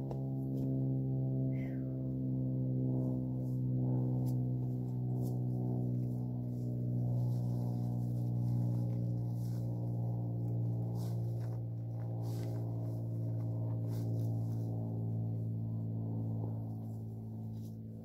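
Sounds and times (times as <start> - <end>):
low ambient drone music: 0.0 - 18.0.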